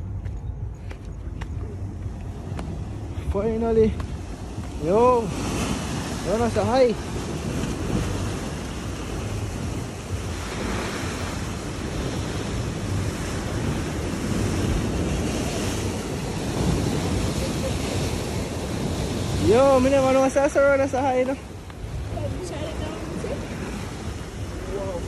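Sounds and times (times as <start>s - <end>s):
wind rumbling on microphone: 0.0s - 25.0s
sea surf washing on shore: 1.4s - 25.0s.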